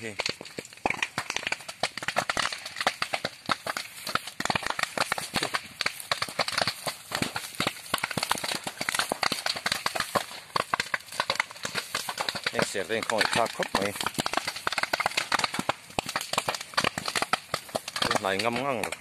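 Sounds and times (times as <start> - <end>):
brush fire crackling: 0.0 - 19.0.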